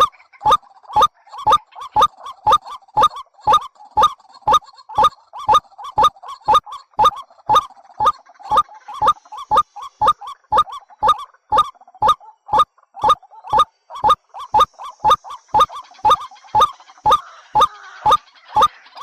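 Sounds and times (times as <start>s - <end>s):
rail bird calling harsh notes: 0.0s - 19.0s.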